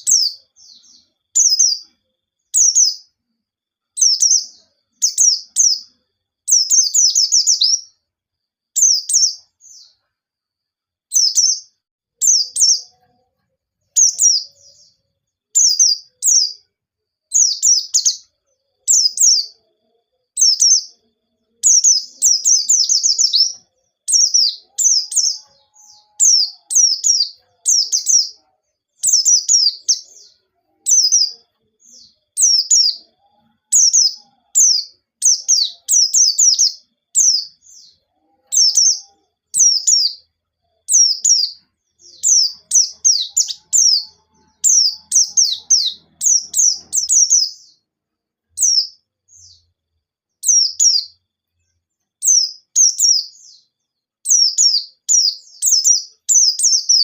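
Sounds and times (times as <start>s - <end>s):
bird singing high rapid phrases: 0.0s - 3.2s, 3.9s - 8.0s, 8.8s - 10.0s, 11.1s - 13.2s, 13.8s - 16.7s, 17.3s - 47.9s, 48.5s - 51.2s, 52.2s - 57.0s.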